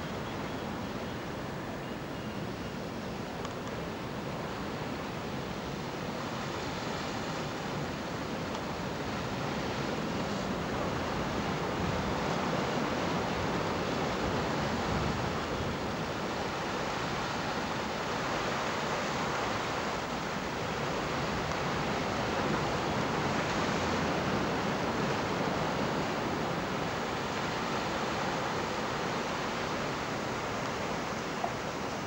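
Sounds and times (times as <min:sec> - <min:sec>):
wind: 0:00.0 - 0:32.0
sea surf: 0:02.5 - 0:32.0.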